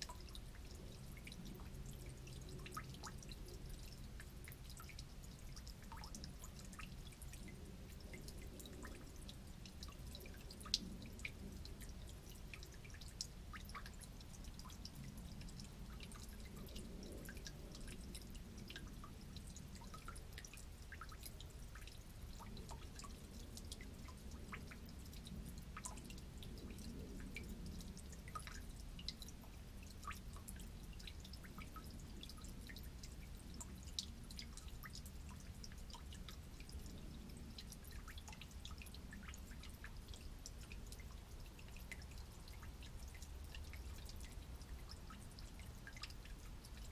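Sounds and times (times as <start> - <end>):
low steady rumble: 0.0 - 46.9.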